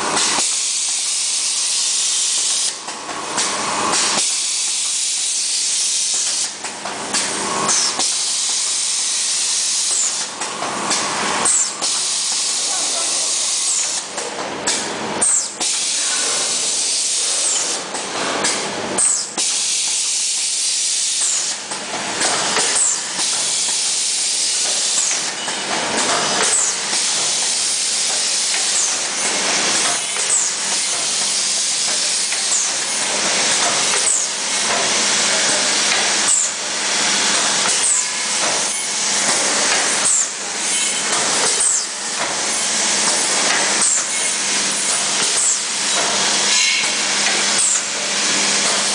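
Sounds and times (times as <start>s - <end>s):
machine hissing: 0.0s - 14.1s, 15.2s - 48.9s.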